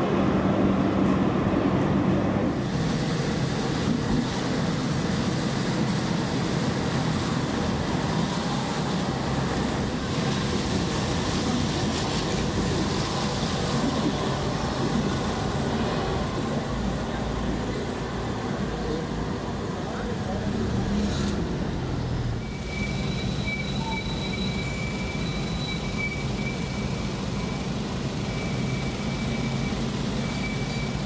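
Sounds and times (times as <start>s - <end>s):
traffic noise: 0.0s - 31.0s
tyres on wet street: 0.0s - 31.0s.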